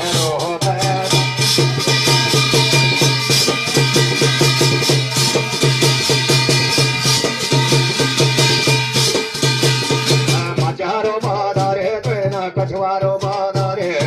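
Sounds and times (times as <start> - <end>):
fast drum rhythm: 0.0 - 14.0
jingling rattling percussion: 0.0 - 14.0.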